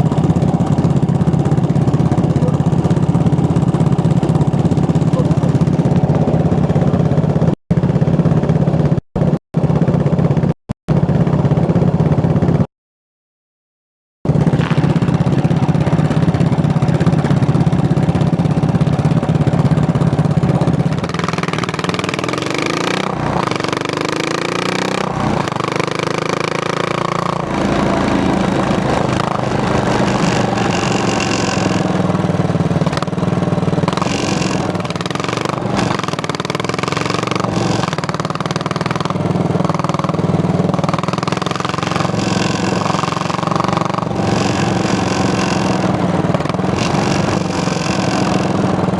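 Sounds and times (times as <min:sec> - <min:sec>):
motorcycle engine accelerating: 0:00.0 - 0:12.7, 0:14.3 - 0:48.9.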